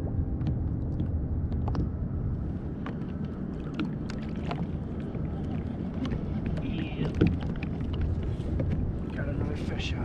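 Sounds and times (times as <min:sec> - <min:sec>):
river water against kayak hull: 0:00.9 - 0:10.0.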